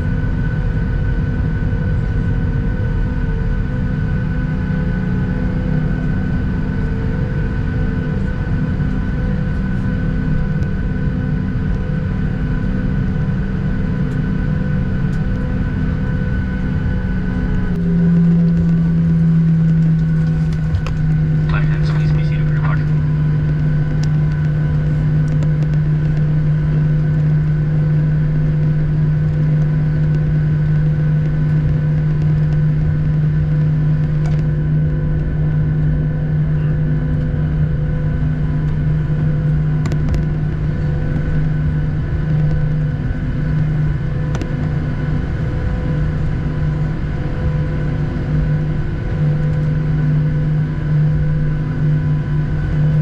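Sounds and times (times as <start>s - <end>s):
jet engines humming in cabin: 0.0s - 53.0s.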